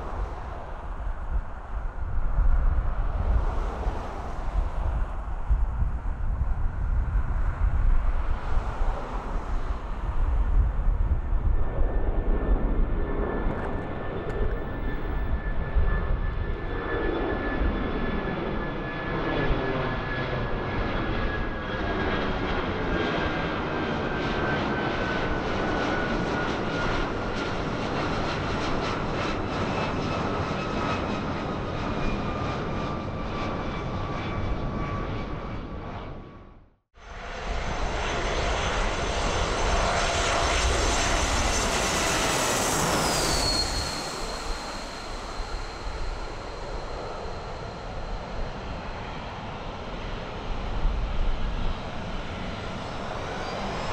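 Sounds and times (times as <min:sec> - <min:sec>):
jet engine roar with fan whine: 0:00.0 - 0:53.9.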